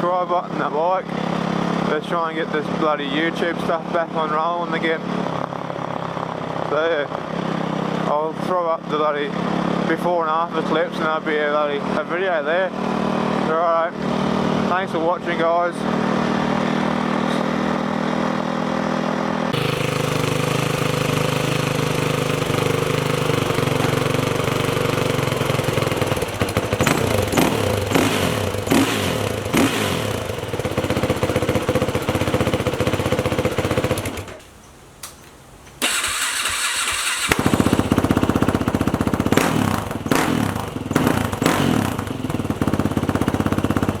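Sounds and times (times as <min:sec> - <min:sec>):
dirt bike engine revving: 0:00.0 - 0:34.4, 0:35.8 - 0:44.0.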